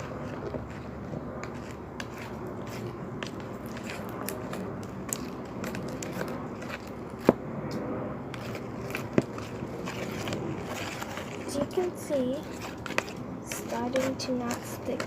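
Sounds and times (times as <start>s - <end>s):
slime stirred crackling and clicking: 0.0s - 15.0s.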